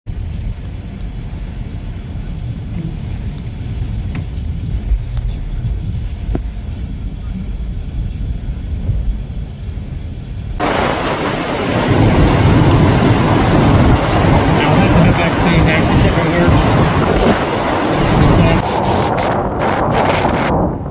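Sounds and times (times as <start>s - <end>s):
gale-force wind roaring: 0.1s - 20.9s
wind buffeting microphone: 0.1s - 20.9s.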